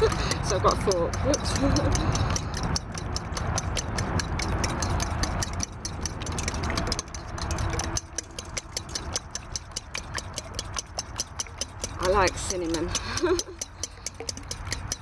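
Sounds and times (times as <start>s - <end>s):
fork clinking in metal bowl: 0.0s - 15.0s.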